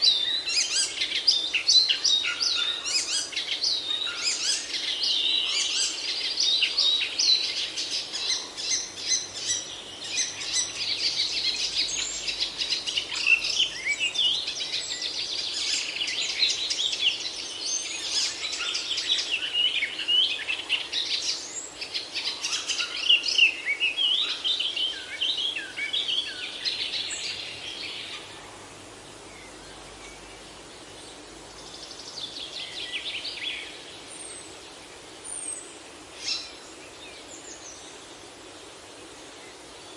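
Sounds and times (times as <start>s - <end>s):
songbirds chirping and singing: 0.0s - 39.9s
steady hiss: 0.0s - 39.9s.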